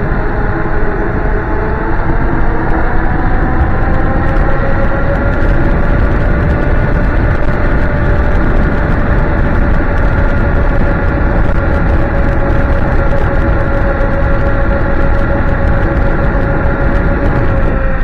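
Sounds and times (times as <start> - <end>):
electric scooter motor whine: 0.0 - 18.0
wind rumble on microphone: 0.0 - 18.0.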